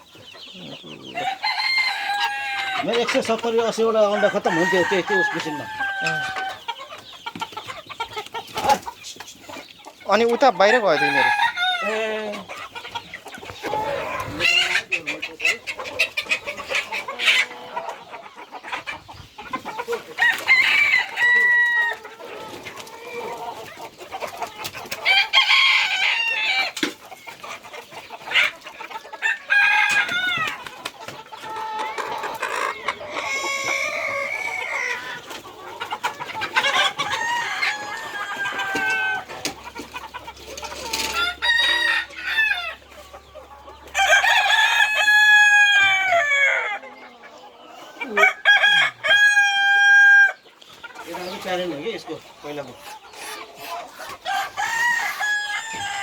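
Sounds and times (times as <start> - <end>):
chickens clucking: 0.0 - 56.0
roosters crowing: 0.0 - 56.0.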